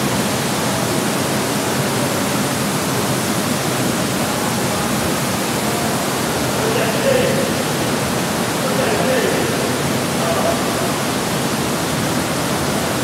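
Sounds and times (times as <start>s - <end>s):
water rushing into spa pools: 0.0s - 13.0s.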